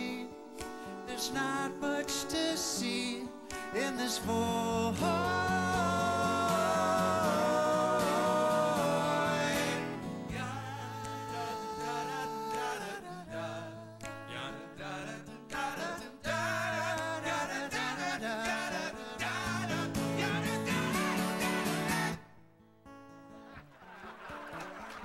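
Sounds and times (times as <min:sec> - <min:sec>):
voices singing in harmony: 0:00.0 - 0:22.2
acoustic guitar: 0:00.0 - 0:25.0.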